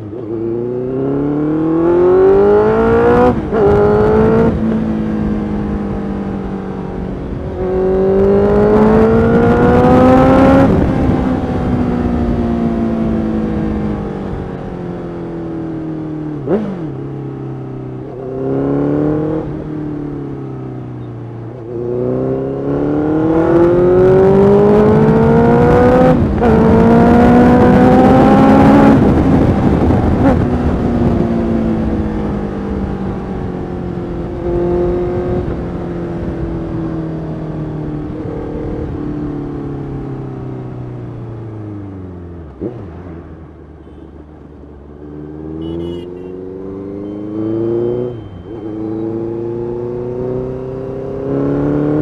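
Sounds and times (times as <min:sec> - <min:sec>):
motorcycle engine revving through gears: 0:00.0 - 0:43.6, 0:44.4 - 0:52.0.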